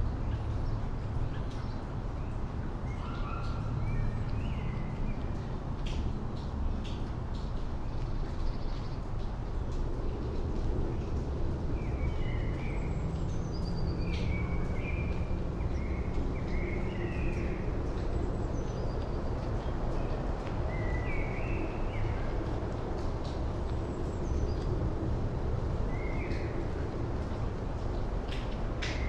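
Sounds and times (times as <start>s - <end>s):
distant city traffic rumble: 0.0s - 29.0s.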